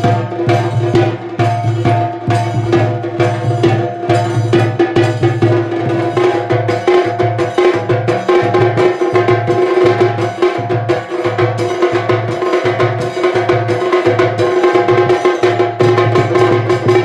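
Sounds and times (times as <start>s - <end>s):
fast stick strokes on small drums: 0.0s - 17.0s.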